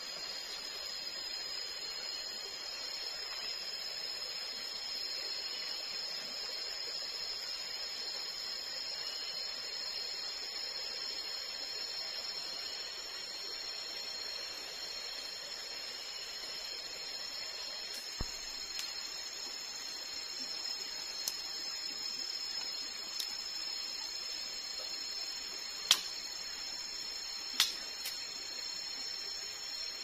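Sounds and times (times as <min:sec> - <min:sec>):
cicadas droning: 0:00.0 - 0:30.0
soft hiss: 0:00.0 - 0:30.0.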